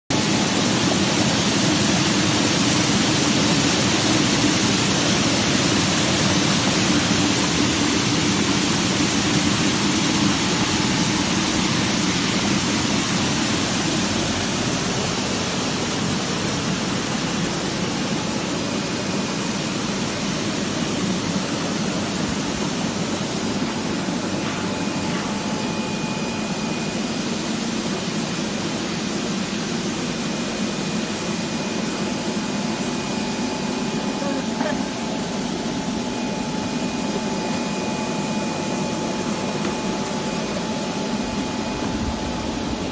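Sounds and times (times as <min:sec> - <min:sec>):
bubbling churning water: 0:00.1 - 0:42.9
washing machine running: 0:00.1 - 0:42.9.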